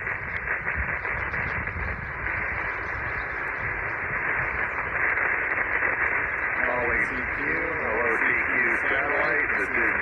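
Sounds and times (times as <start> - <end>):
radio receiver hiss: 0.0 - 10.0.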